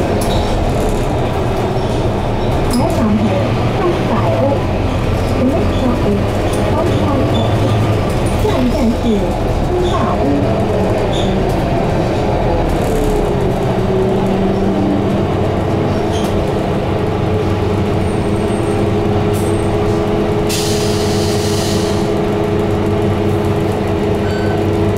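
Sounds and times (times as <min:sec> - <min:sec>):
bus diesel engine running: 0:00.0 - 0:24.9.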